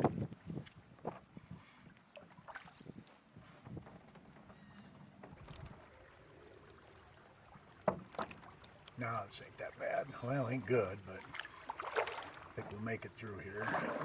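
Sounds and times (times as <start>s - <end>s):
canoe paddle splashing: 0.0s - 14.0s.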